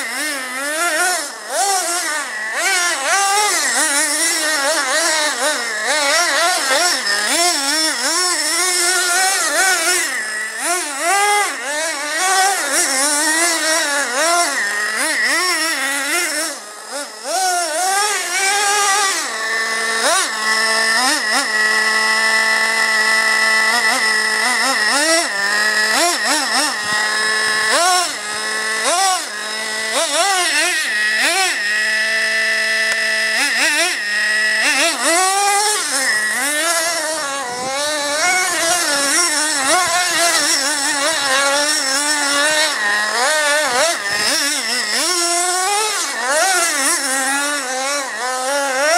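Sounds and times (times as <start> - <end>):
rc truck engine revving: 0.0 - 48.9.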